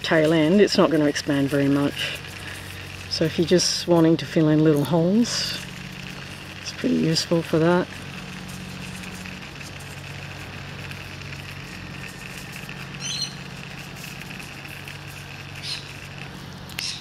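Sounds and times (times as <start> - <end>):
foam spray crackling hiss: 0.0 - 17.0
low hum: 0.0 - 17.0.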